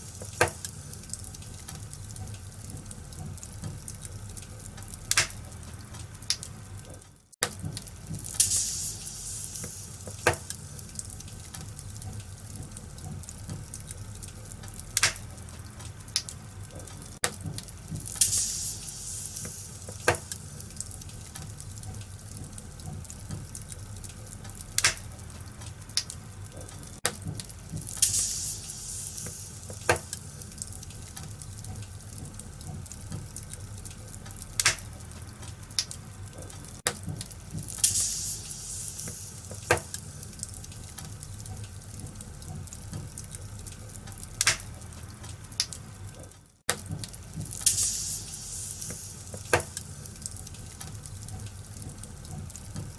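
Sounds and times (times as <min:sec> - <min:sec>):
fire hissing flares: 0:00.0 - 0:06.8, 0:07.7 - 0:45.9, 0:46.8 - 0:52.9
low steady rumble: 0:00.0 - 0:52.9
wood fire crackling: 0:00.0 - 0:52.9.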